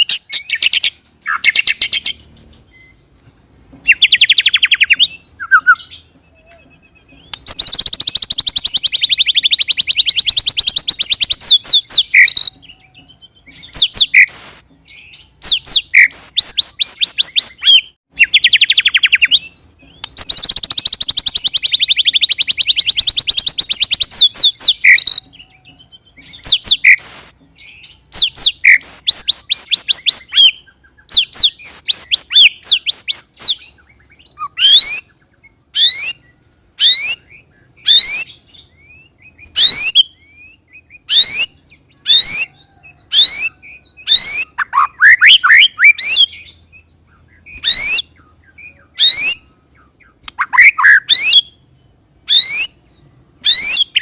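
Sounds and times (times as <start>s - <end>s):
songbird trilling and whistling: 0.0s - 3.1s, 3.8s - 54.0s.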